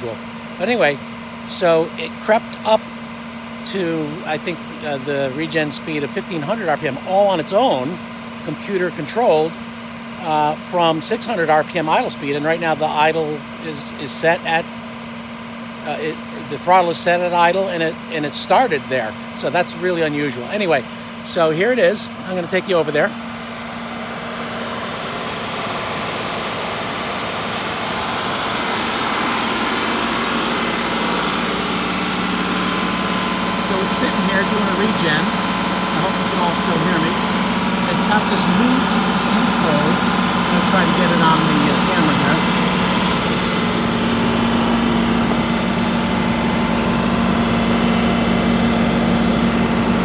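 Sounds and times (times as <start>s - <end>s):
diesel tractor engine running: 0.0s - 50.0s.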